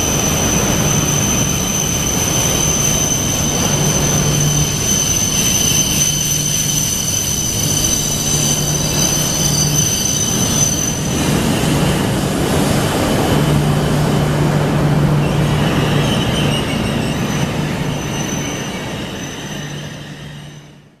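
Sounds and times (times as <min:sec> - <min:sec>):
high train whine: 0:00.0 - 0:21.0
train rushing past: 0:00.0 - 0:21.0.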